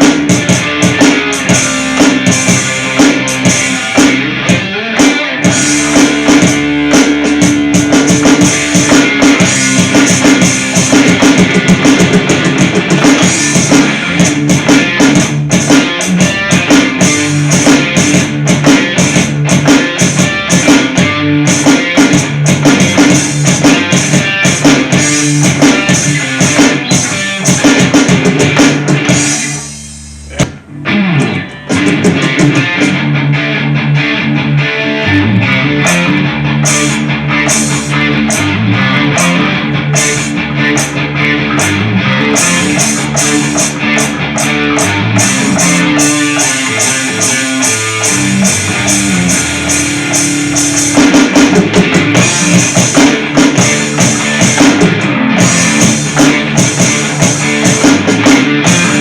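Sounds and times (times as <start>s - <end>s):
hard rock band playing: 0.0s - 59.0s.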